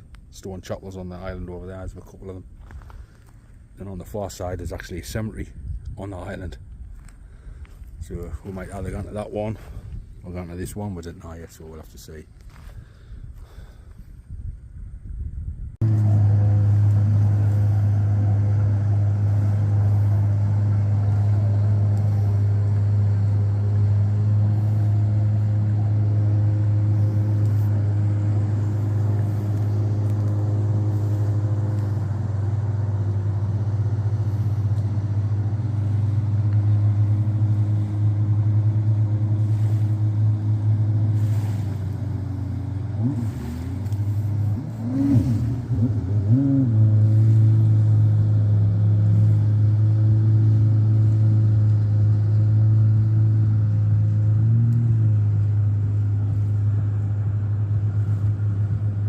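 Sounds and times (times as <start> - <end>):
engine running with deep hum: 0.0 - 59.0.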